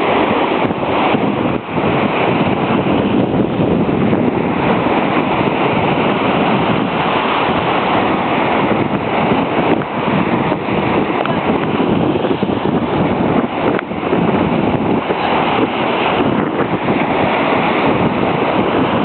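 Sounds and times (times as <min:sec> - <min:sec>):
ocean surf washing on beach: 0:00.0 - 0:19.0
wind buffeting microphone: 0:00.0 - 0:19.0.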